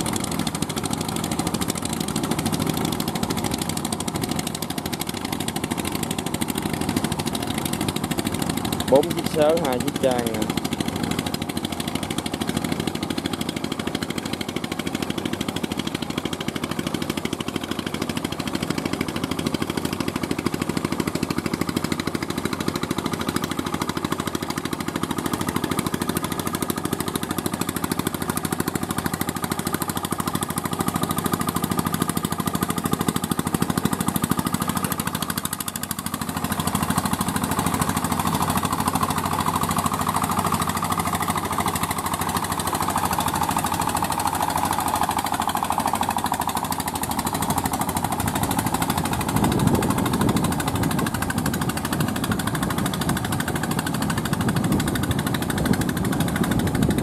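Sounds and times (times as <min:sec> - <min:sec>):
small diesel tiller engines chugging: 0:00.0 - 0:57.0.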